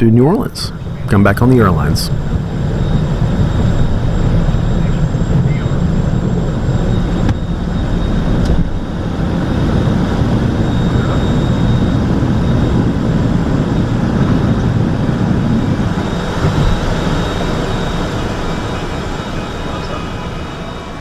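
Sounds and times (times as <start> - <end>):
faint high whine: 0.0 - 21.0
jet engine and airflow rush: 0.0 - 21.0.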